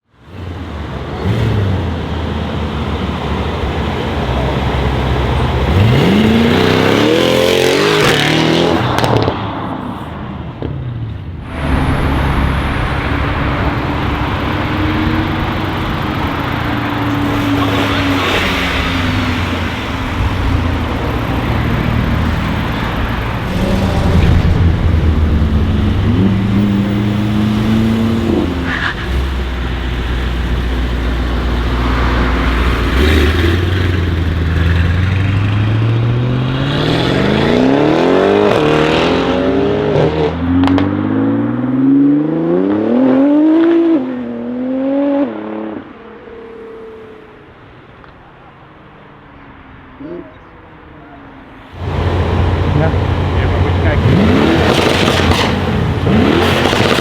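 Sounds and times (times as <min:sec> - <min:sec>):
car engine revving: 0:00.2 - 0:10.0, 0:10.6 - 0:46.0, 0:51.6 - 0:57.0.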